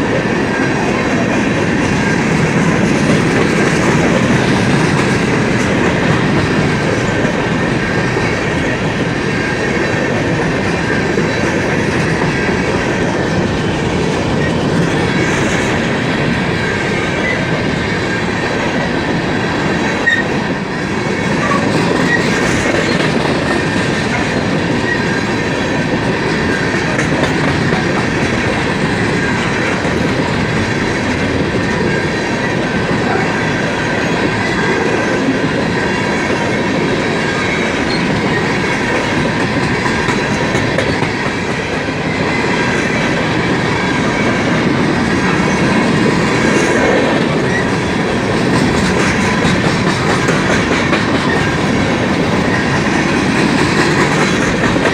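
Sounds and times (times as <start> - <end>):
train wheels rumbling on track: 0.0 - 54.9.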